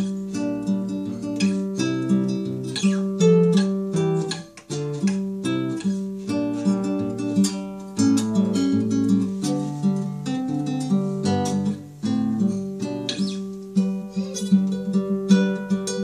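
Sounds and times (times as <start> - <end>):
classical guitar plucking: 0.0 - 16.0.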